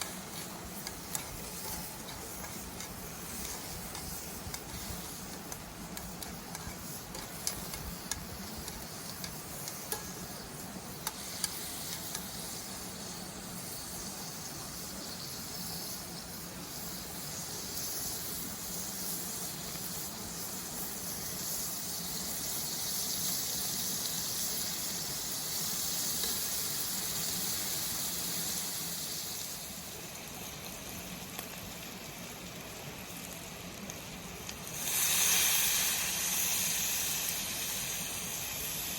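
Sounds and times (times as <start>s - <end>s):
food sizzling in frying pan: 0.0s - 38.9s.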